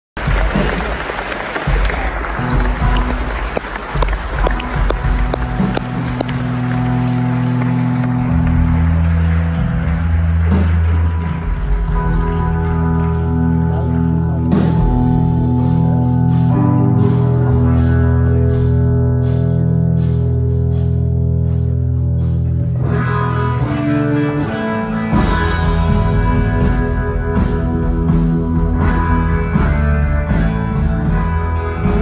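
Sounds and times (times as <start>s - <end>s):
live blues-rock band playing: 0.2s - 32.0s.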